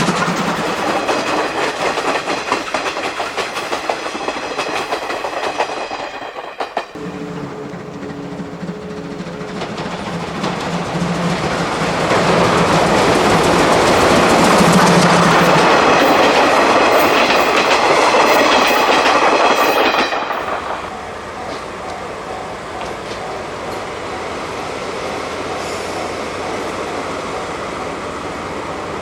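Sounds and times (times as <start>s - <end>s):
wheels clattering over rail joints: 0.0s - 27.5s
steam train passing: 0.0s - 29.0s.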